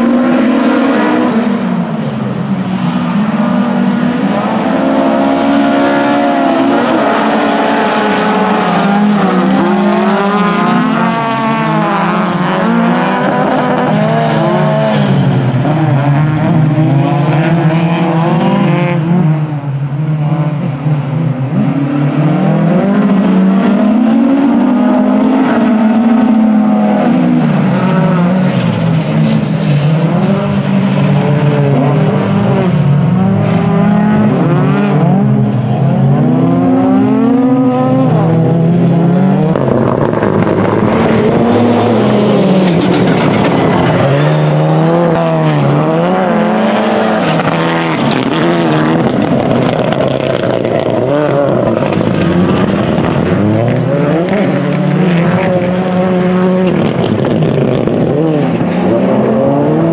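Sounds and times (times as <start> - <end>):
rally car engines racing: 0.0 - 59.9.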